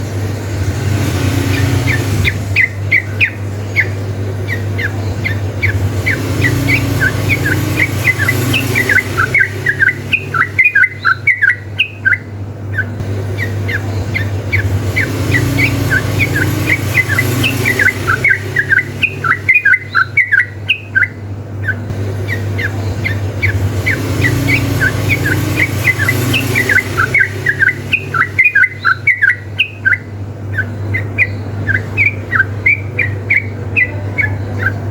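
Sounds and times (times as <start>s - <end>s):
birds chattering song: 0.0s - 34.9s
steady low hum: 0.0s - 34.9s.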